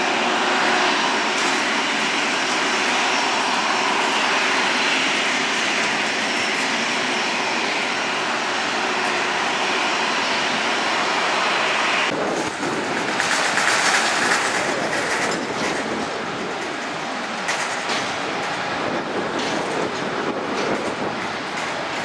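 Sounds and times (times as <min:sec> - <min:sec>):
jet engines taxiing: 0:00.0 - 0:22.0.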